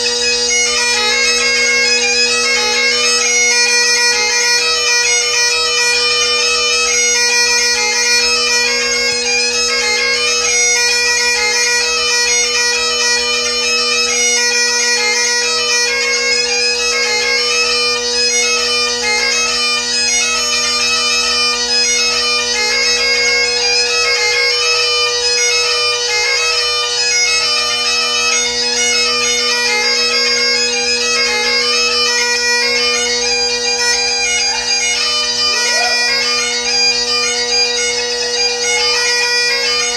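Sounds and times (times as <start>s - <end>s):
bagpipe drones and melody: 0.0s - 39.9s.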